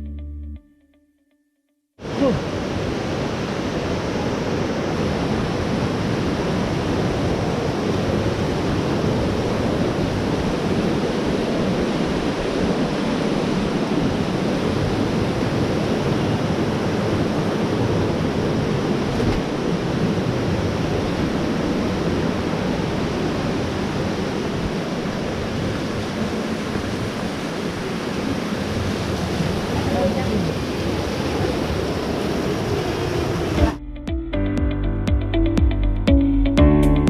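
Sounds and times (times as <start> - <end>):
waterfall roaring: 2.0 - 33.7.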